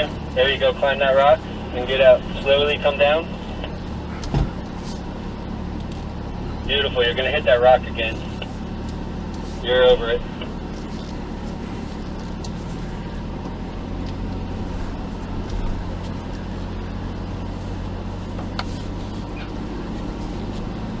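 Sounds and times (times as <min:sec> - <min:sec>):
off-road vehicle engine running: 0:00.0 - 0:21.0.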